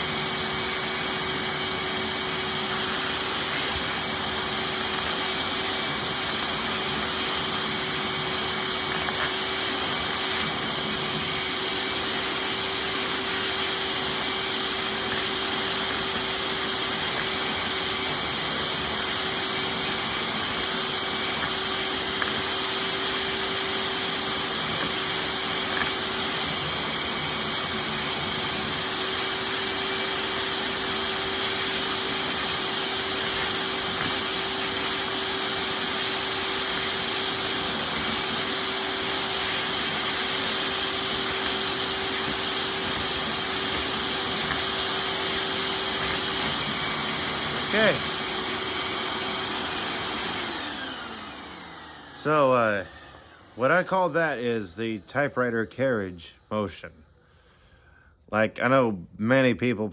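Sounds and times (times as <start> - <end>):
shop vacuum running: 0.0 - 56.6.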